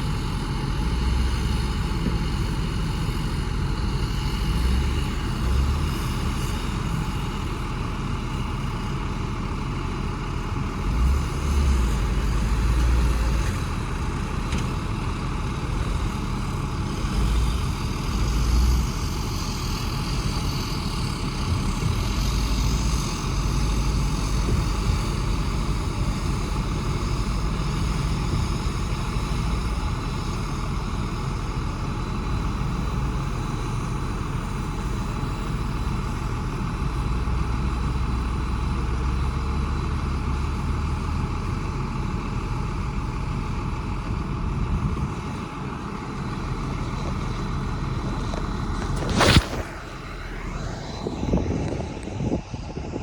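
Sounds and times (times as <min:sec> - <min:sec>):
diesel machinery engine rumbling: 0:00.0 - 0:53.0.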